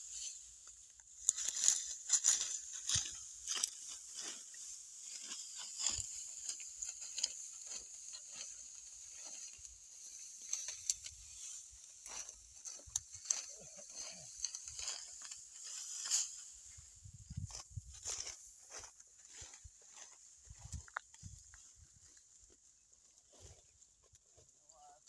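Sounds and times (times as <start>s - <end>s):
wheat stalks rustling and snapping: 0.0s - 24.6s.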